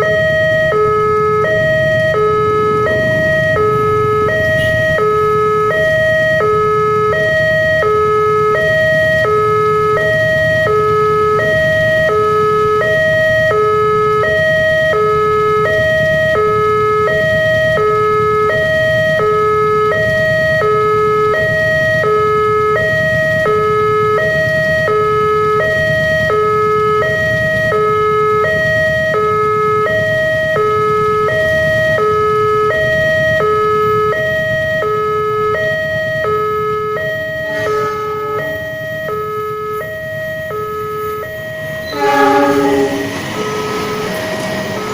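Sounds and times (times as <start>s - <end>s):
two-tone crossing alarm: 0.0s - 44.9s.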